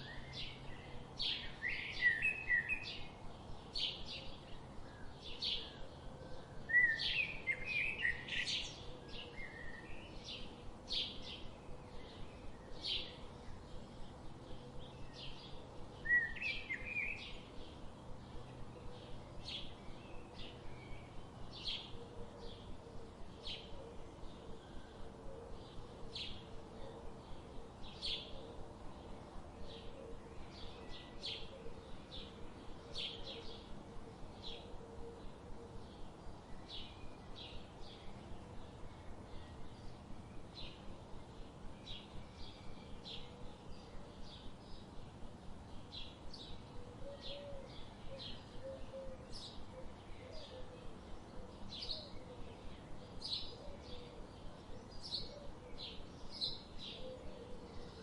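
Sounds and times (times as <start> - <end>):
soft low bird calls: 0.0 - 58.0
songbirds chirping: 0.0 - 58.0.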